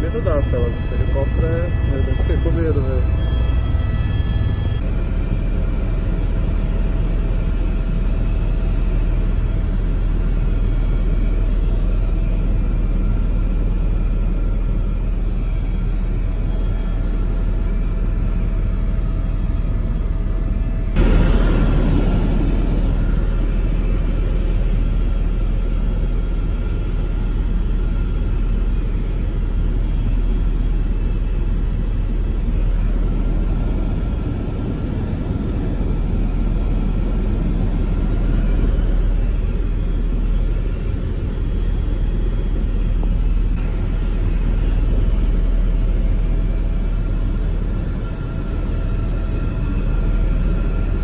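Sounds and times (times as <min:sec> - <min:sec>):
faint steady whine: 0:00.0 - 0:51.0
helicopter engine and rotor rumble: 0:00.0 - 0:51.0.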